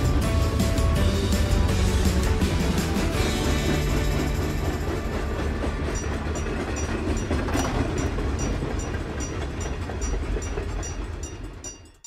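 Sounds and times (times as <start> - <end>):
train rumbling over rails: 0.0 - 12.0
clicking of wheels on rails: 0.4 - 12.0.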